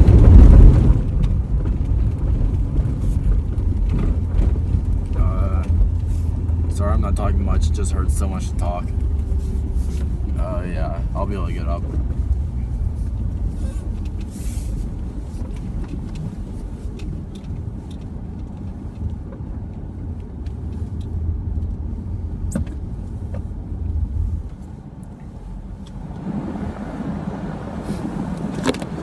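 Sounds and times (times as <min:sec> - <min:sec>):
car engine rumble from inside: 0:00.0 - 0:29.0.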